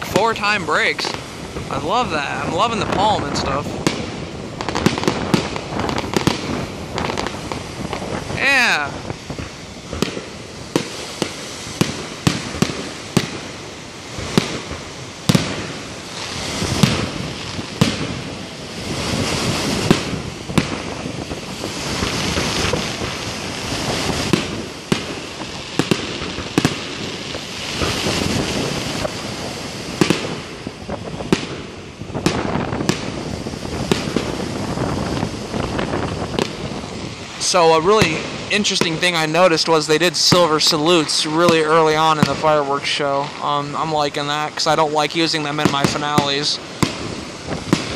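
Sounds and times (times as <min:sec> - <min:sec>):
fireworks bursting with sharp bangs: 0:00.0 - 0:47.9.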